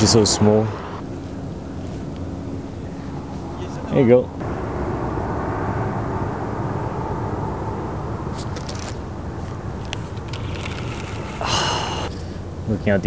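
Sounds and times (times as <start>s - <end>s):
airplane engine rumble: 0.0s - 12.8s.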